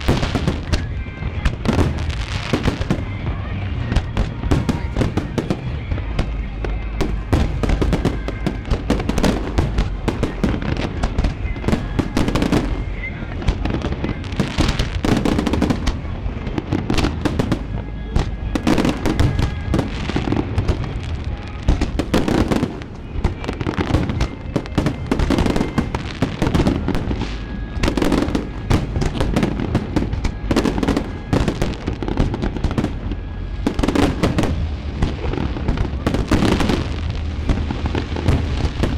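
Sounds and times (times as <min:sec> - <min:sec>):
deep steady rumble: 0:00.0 - 0:38.9
fireworks bangs and crackles: 0:00.0 - 0:38.9.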